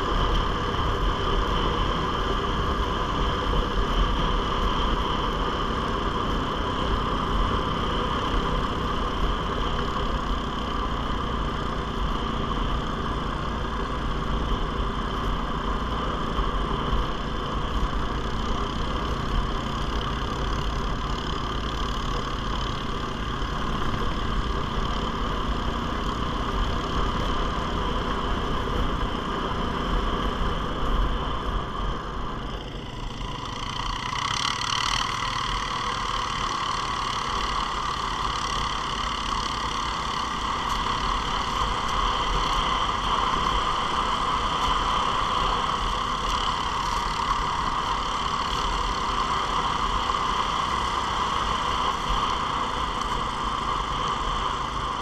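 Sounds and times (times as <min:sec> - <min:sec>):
atv engine cruising: 0:00.0 - 0:55.0.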